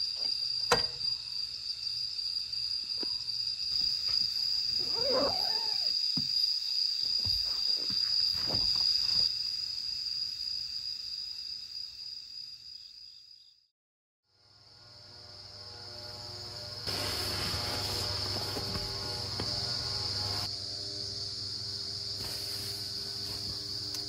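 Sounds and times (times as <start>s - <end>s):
crickets trilling: 0.0s - 13.6s, 14.4s - 24.0s.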